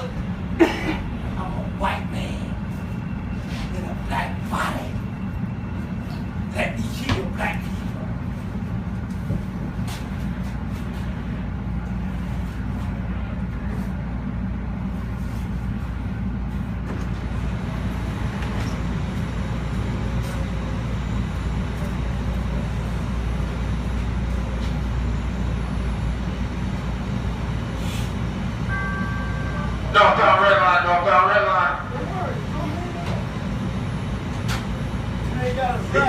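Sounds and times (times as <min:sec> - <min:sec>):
subway car rumble: 0:00.0 - 0:36.0.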